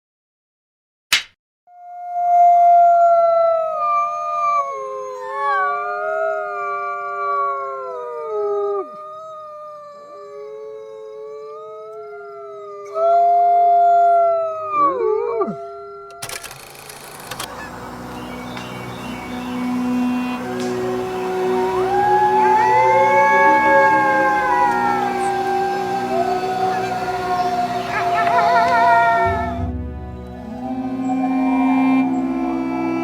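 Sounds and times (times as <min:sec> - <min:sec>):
wolves howling in chorus: 0:02.2 - 0:16.2, 0:17.5 - 0:33.0.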